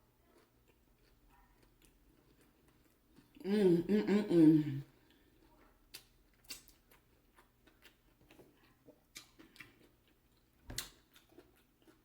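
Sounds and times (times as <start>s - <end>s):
chewing crunchy food: 0.0s - 3.4s, 4.9s - 12.0s.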